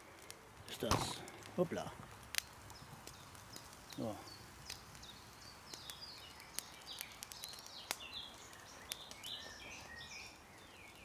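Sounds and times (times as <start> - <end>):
charcoal embers crackling: 0.0 - 11.0
songbirds chirping: 0.0 - 11.0.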